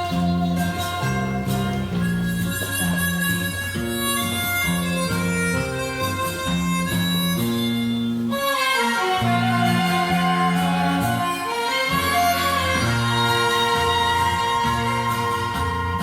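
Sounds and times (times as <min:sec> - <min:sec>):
instrumental enka music: 0:00.0 - 0:16.0.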